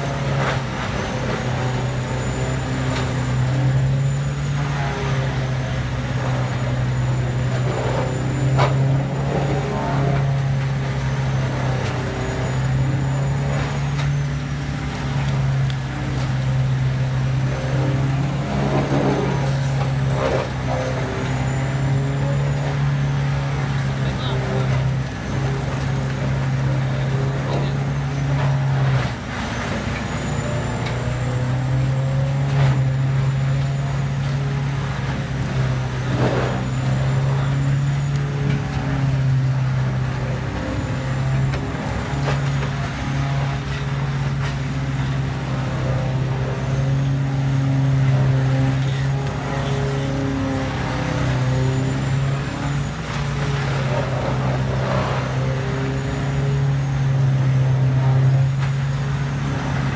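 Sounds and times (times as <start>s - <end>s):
diesel engine drone: 0.0s - 59.9s
mill grinding wood: 0.0s - 59.9s.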